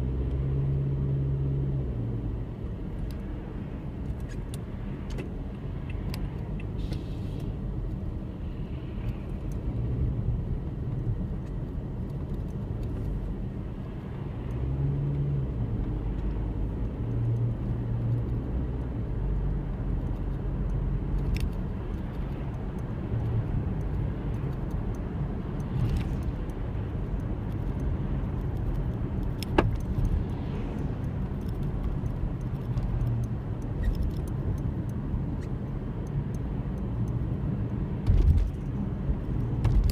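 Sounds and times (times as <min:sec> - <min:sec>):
car rumbling in motion: 0:00.0 - 0:39.9.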